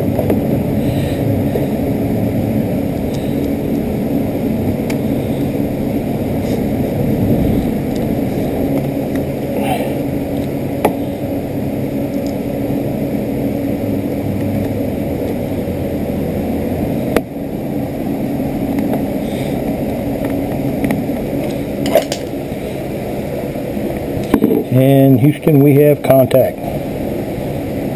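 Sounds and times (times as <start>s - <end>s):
steady mechanical hum: 0.0s - 27.9s.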